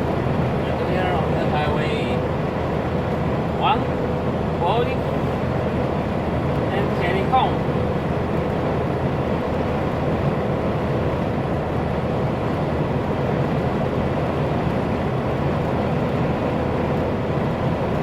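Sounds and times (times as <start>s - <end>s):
diesel truck engine drone: 0.0s - 18.0s
road noise: 0.0s - 18.0s.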